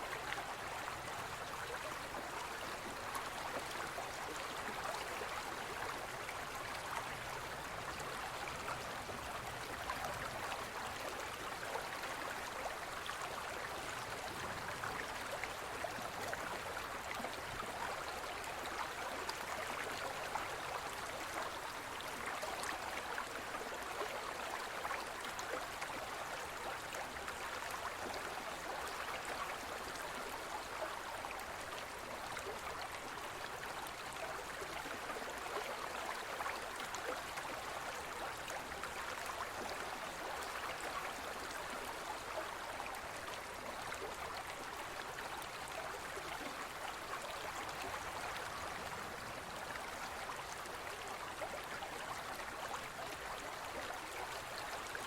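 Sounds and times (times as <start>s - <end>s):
forest stream flowing: 0.0s - 55.0s.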